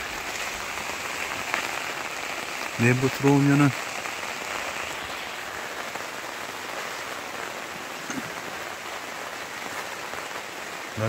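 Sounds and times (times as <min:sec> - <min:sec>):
rain pattering on fabric roof: 0:00.0 - 0:11.0.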